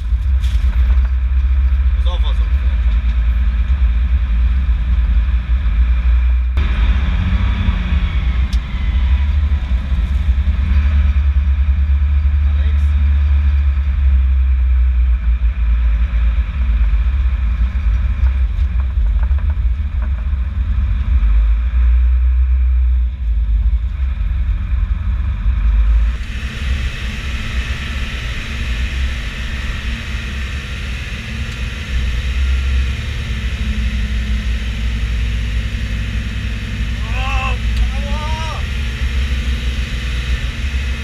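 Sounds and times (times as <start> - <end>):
tractor engine rumbling: 0.0 - 41.0.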